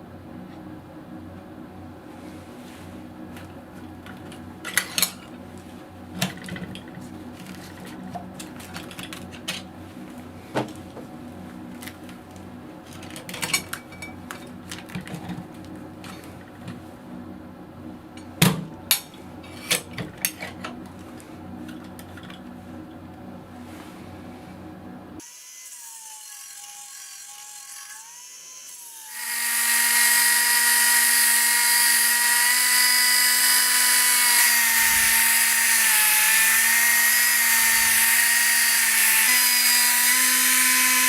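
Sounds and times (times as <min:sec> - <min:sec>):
steady low hum: 0:00.0 - 0:25.2, 0:29.3 - 0:41.0.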